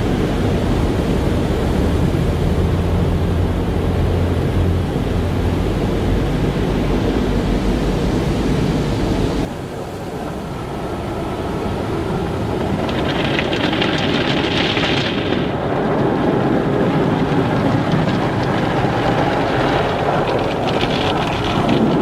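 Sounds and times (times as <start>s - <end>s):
car wash water spray and machinery: 0.0s - 22.0s.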